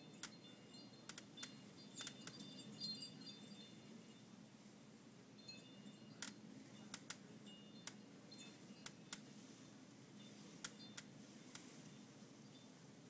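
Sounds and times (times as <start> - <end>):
faint high tinkling: 0.0 - 13.0
faint low hum: 0.0 - 13.0.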